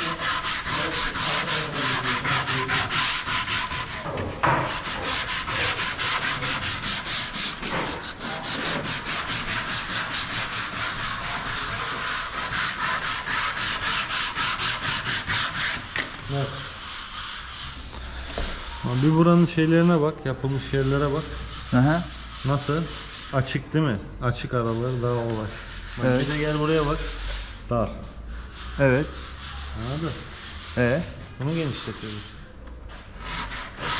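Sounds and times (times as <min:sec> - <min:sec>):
sandpaper rubbing on wood: 0:00.0 - 0:23.6, 0:24.6 - 0:27.7, 0:28.4 - 0:33.9.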